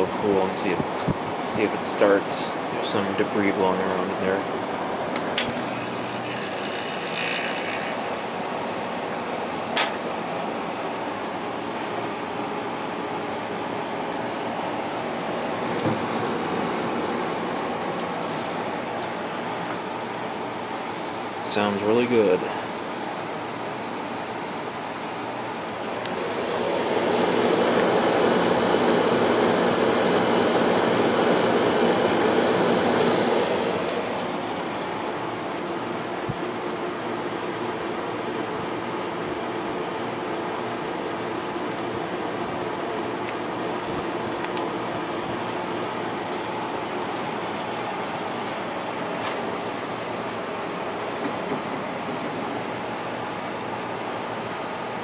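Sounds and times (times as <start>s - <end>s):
compressor hum: 0.0s - 55.0s
window air conditioner running: 0.0s - 55.0s.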